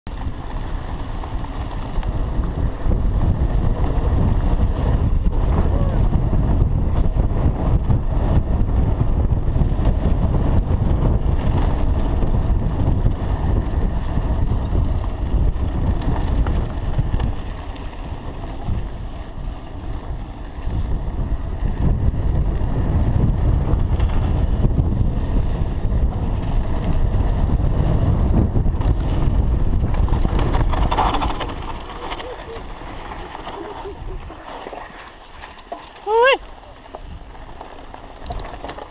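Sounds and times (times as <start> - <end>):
tyres rumbling on dirt: 0.1 - 38.9
wind buffeting microphone: 0.1 - 38.9.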